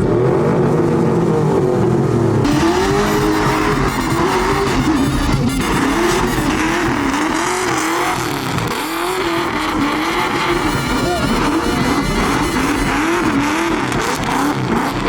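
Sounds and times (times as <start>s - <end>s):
tires spinning: 0.0s - 15.0s
truck engine revving: 0.0s - 15.0s.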